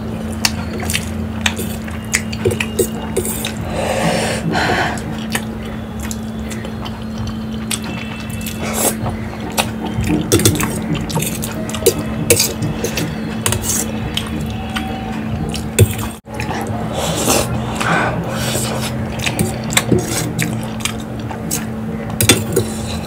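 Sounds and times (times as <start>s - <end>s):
slurping and chewing noodles: 0.0s - 23.0s.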